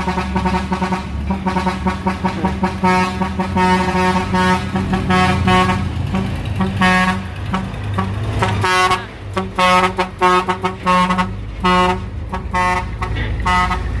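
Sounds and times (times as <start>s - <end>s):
truck engine running: 0.0s - 14.0s
truck horn blasts: 0.0s - 14.0s.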